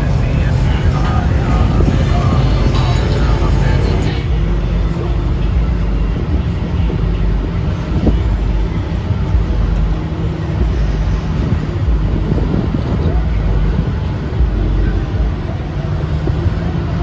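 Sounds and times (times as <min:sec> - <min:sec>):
heavy vehicle engine droning: 0:00.0 - 0:17.0.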